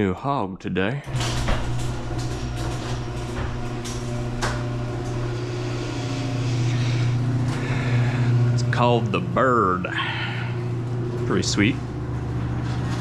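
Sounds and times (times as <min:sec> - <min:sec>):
low mechanical hum: 0:00.9 - 0:13.0.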